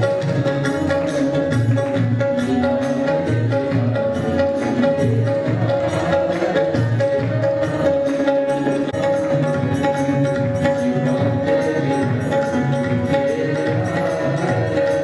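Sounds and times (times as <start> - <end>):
electronic tabla-style drumming: 0.0 - 15.0.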